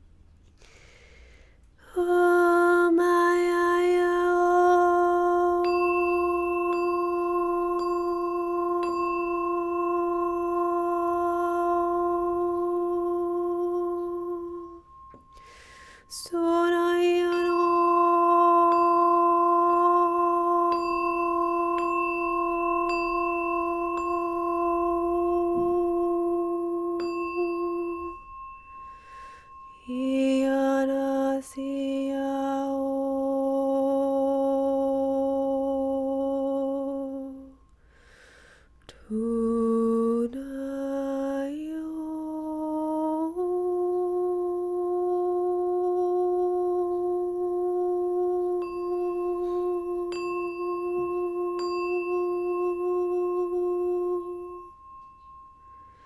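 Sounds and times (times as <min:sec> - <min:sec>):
lower-pitched singing bowl tone: 0:01.8 - 0:37.9, 0:38.9 - 0:56.0
singing bowl ringing: 0:02.0 - 0:38.0, 0:39.2 - 0:56.0.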